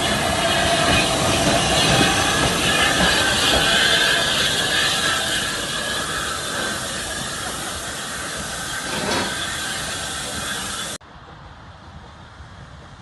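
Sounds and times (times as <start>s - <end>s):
steam locomotive hissing: 0.0s - 11.0s
train running noise: 0.0s - 13.0s.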